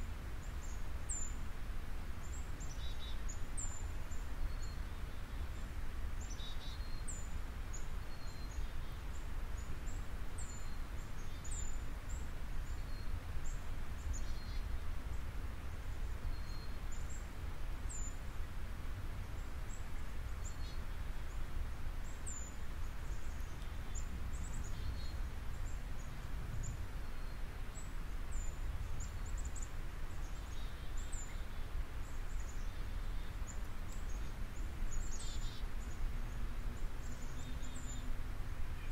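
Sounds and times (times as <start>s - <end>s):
small birds chirping: 2.2s - 18.3s, 19.2s - 38.9s.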